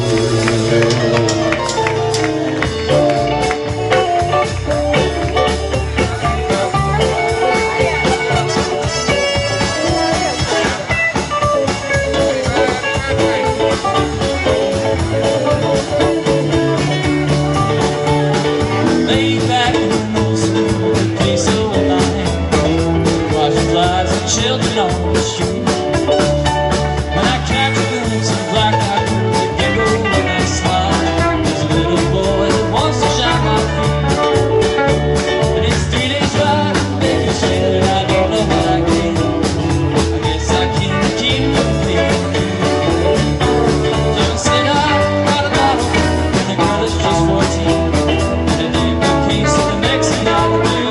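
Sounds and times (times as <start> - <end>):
rock band playing: 0.0 - 50.9.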